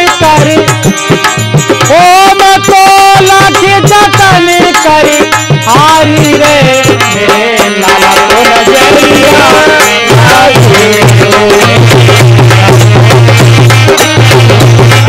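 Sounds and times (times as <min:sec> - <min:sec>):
hand drum beating: 0:00.0 - 0:15.0
harmonium melody: 0:00.0 - 0:15.0
man singing: 0:00.0 - 0:15.0.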